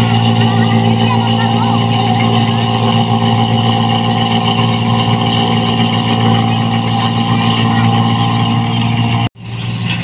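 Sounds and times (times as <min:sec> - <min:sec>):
combine harvester diesel engine: 0:00.0 - 0:10.0.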